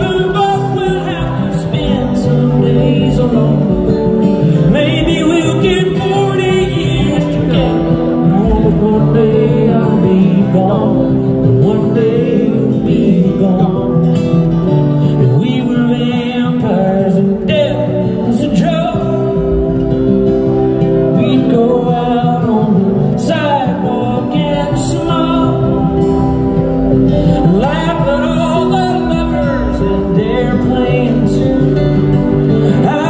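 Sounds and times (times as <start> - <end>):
electric bass: 0.0 - 33.0
male lead vocal: 0.0 - 33.0
strummed acoustic guitar: 0.0 - 33.0.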